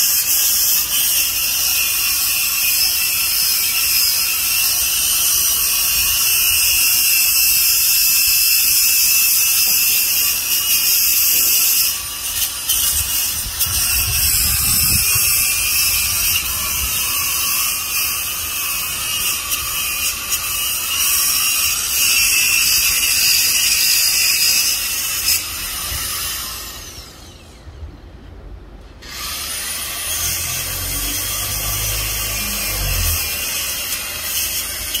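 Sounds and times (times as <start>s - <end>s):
angle grinder grinding metal: 0.0s - 27.5s, 29.0s - 35.0s.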